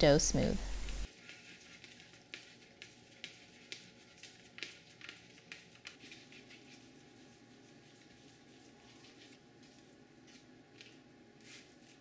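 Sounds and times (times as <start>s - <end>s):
palm rubbing dough on metal sheet: 0.8s - 12.0s.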